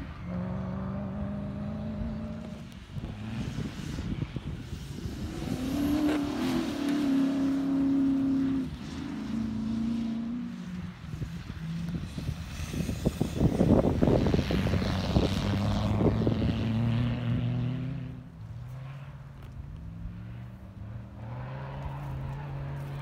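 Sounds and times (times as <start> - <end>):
distant racing car engine: 0.0 - 23.0.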